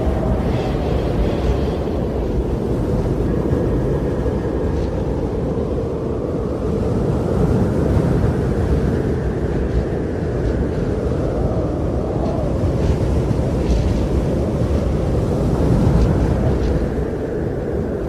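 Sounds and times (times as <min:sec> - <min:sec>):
wind blowing: 0:00.0 - 0:18.0.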